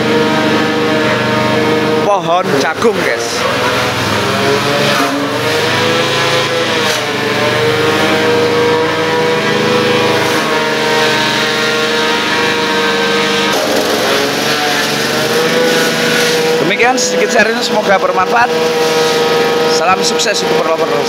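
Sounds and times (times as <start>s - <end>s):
small engine running at high speed: 0.0s - 21.0s.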